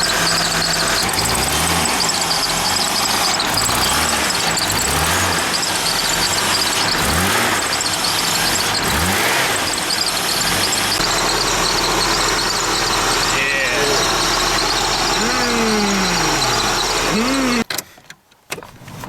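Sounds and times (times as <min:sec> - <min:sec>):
car engine running: 0:00.0 - 0:17.6
high squeal: 0:00.0 - 0:17.6.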